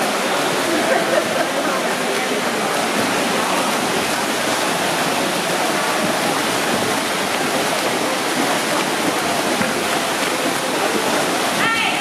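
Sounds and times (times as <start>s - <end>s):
swimmers splashing: 0.0s - 12.0s.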